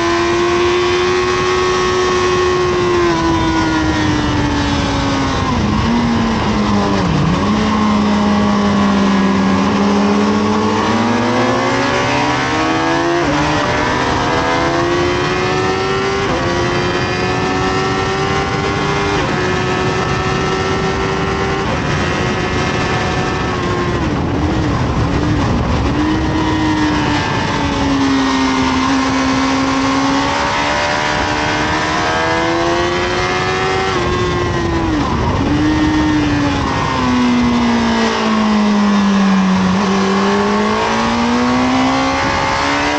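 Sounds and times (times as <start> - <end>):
motorcycle engine revving: 0.0 - 42.9
wind rush: 0.0 - 42.9.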